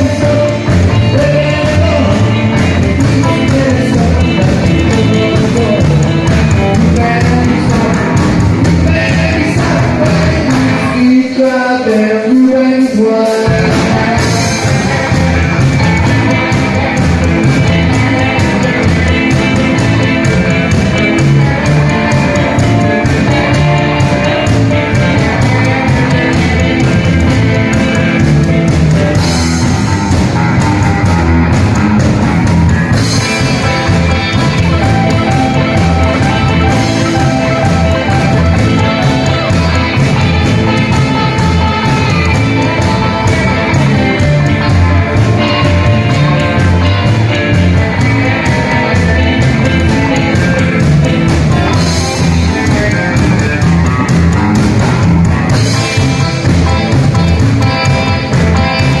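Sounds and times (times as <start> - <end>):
double bass: 0.0 - 11.1, 13.5 - 59.0
drum kit: 0.0 - 59.0
electric guitars: 0.0 - 59.0.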